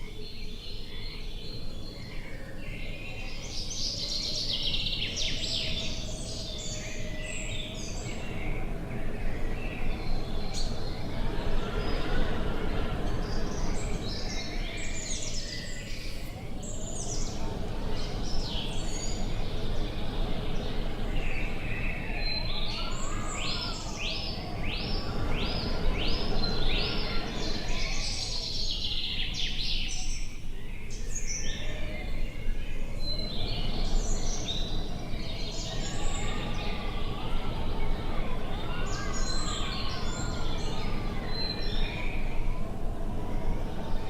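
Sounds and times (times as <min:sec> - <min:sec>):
birds chirping: 0:00.0 - 0:44.0
wind rumble: 0:04.7 - 0:29.6, 0:31.5 - 0:44.0.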